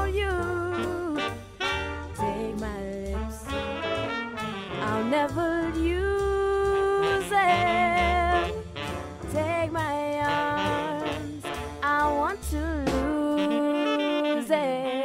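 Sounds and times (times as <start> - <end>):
woman singing: 0.0 - 1.4, 2.2 - 3.6, 4.8 - 8.6, 9.2 - 15.0
jazzy swing backing music: 0.0 - 15.0.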